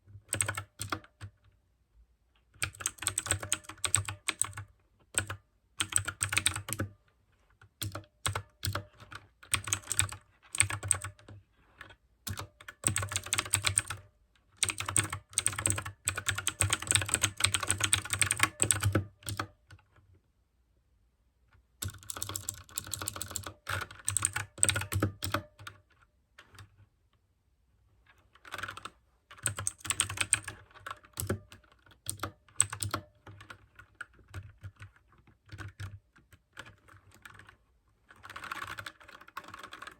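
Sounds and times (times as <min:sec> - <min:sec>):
mechanical keyboard typing clicks: 0:00.3 - 0:01.4, 0:02.6 - 0:06.9, 0:07.8 - 0:14.0, 0:14.6 - 0:19.8, 0:21.8 - 0:25.8, 0:28.4 - 0:39.9.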